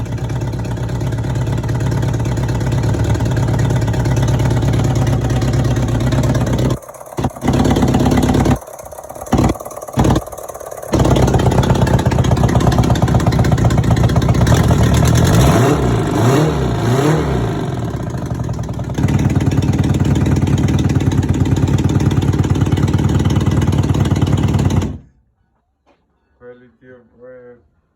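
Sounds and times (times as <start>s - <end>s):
motorcycle engine running and revving: 0.0s - 25.1s.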